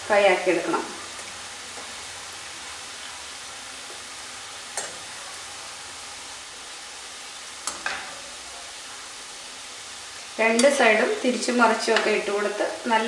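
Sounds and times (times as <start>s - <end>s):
oil sizzling deep-frying: 0.0s - 13.0s.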